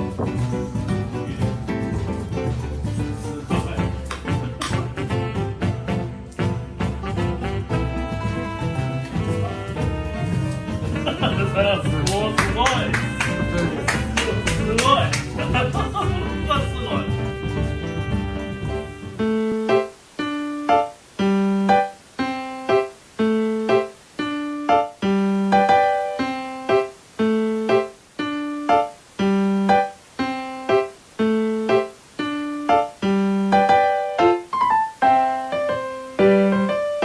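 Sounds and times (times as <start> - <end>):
light piano tune: 0.0 - 37.0.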